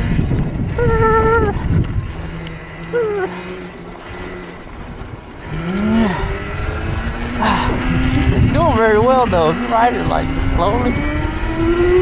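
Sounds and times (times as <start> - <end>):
electric motor whining: 0.0 - 12.0
wind rumbling on microphone: 0.0 - 12.0.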